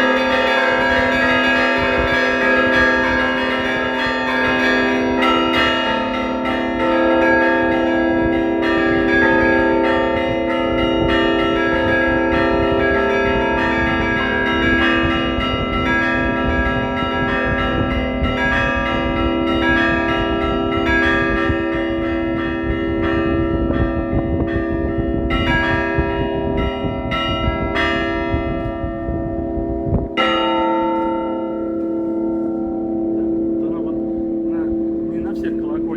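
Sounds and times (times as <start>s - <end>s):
large bells ringing: 0.0s - 35.9s.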